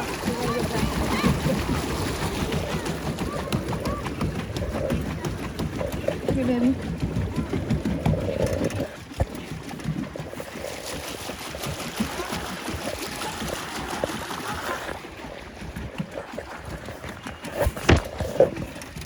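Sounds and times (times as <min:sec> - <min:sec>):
paddle wheel splashing water: 0:00.0 - 0:19.0.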